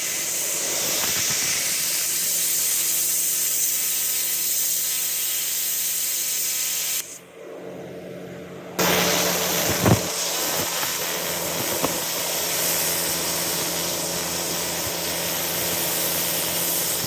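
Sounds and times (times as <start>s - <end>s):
engine running with hiss: 0.0s - 7.2s, 8.8s - 17.0s.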